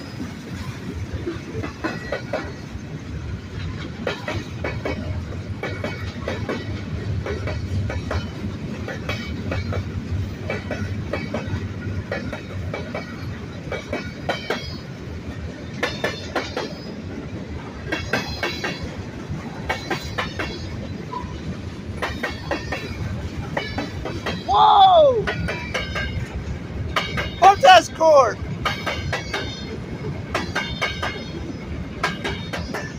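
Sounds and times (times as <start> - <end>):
wheels clattering over rail joints: 0.0 - 24.5, 25.2 - 27.4, 28.4 - 32.9
train cars rumbling past: 0.0 - 32.9.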